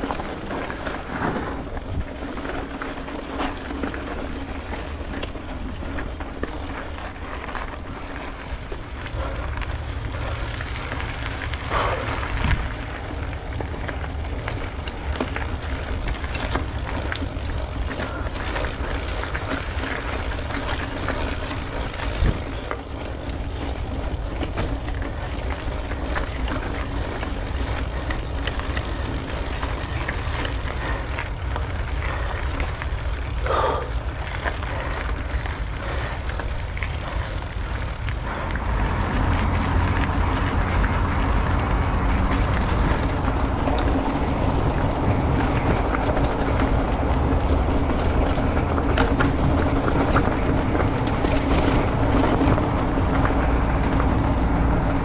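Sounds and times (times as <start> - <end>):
road and tyre noise: 0.0 - 55.0
wind buffeting microphone: 0.0 - 55.0.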